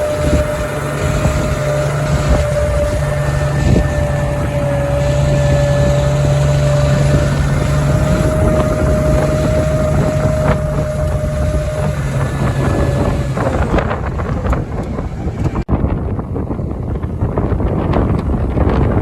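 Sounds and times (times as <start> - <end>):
engine whine: 0.0 - 19.0
tractor engine running under load: 0.0 - 19.0
wind rushing on microphone: 0.0 - 19.0.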